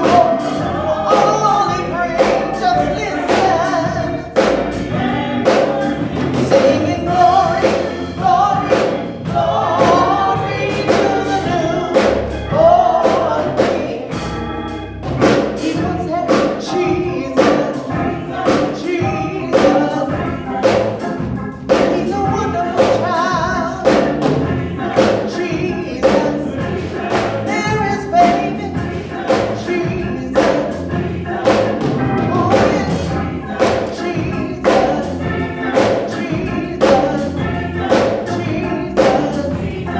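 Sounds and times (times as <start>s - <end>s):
band accompaniment: 0.0s - 39.9s
gospel choir singing: 0.0s - 39.9s
steady drum beat: 0.0s - 39.9s.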